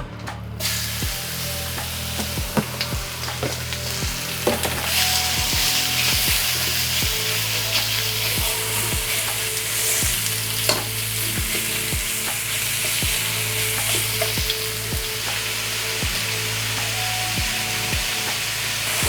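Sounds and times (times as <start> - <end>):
chicken sizzling in a frying pan: 0.6 - 19.0.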